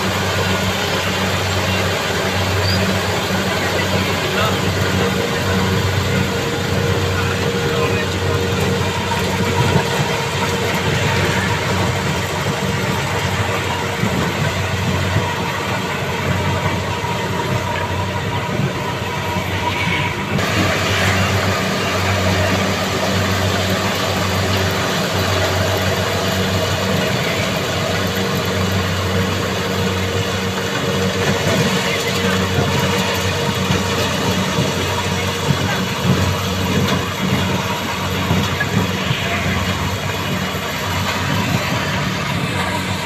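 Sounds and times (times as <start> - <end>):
combine harvester diesel engine: 0.0 - 43.0.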